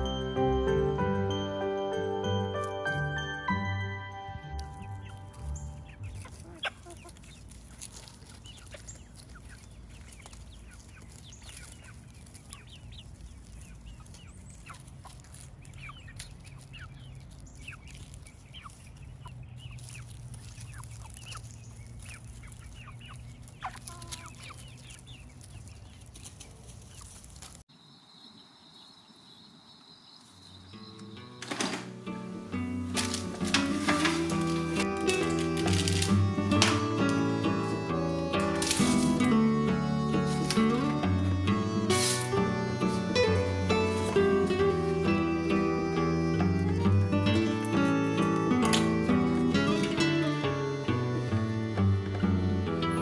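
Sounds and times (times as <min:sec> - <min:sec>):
chickens clucking: 0:02.4 - 0:27.6, 0:30.2 - 0:53.0.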